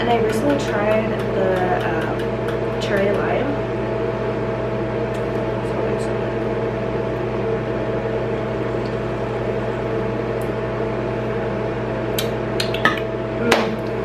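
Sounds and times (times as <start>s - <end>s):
exhaust fan humming: 0.0s - 14.0s.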